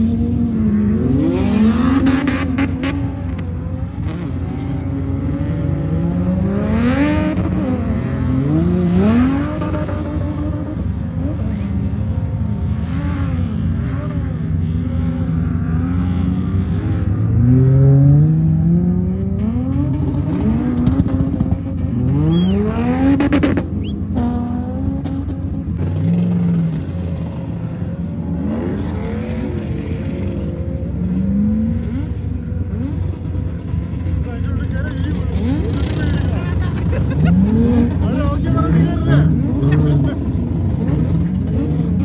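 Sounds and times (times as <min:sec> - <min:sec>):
car engines revving hard: 0:00.0 - 0:42.0.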